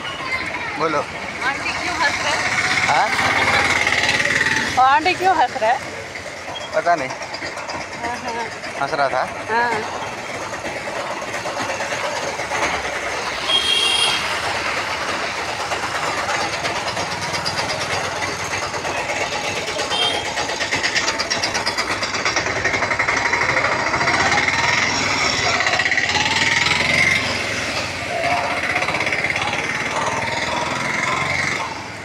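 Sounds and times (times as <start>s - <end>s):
road noise on wet street: 0.0s - 32.0s
vehicle engine clattering: 0.0s - 32.0s.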